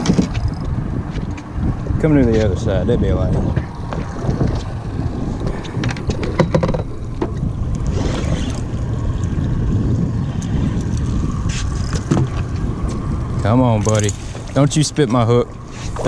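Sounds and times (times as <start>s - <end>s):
boat low rumble: 0.0s - 16.0s
wind noise: 0.0s - 16.0s.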